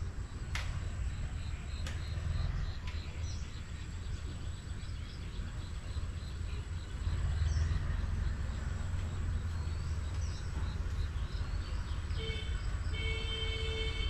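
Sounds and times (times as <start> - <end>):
birds and insects chirping: 0.0 - 14.0.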